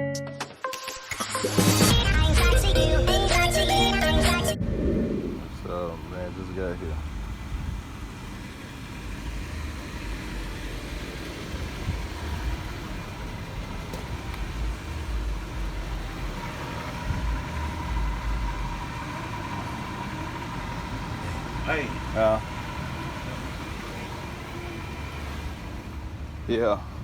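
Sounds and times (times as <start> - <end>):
car engine rumbling: 1.7 - 27.0.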